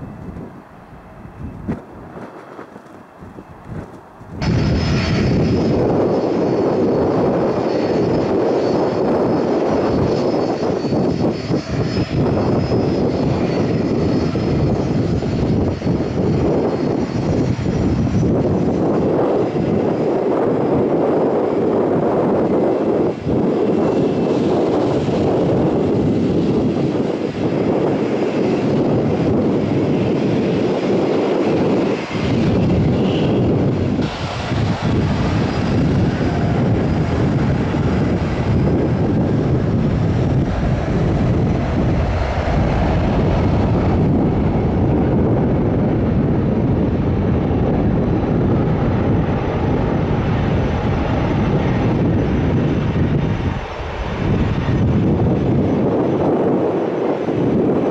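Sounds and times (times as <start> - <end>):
high-pitched engine whine: 0.0 - 57.9
jet engines roaring: 0.0 - 57.9.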